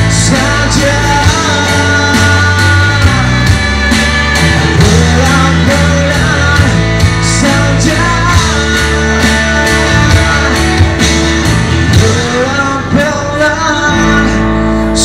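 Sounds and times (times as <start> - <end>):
drum beat: 0.0 - 12.5
electric guitar: 0.0 - 15.0
man singing: 0.0 - 15.0.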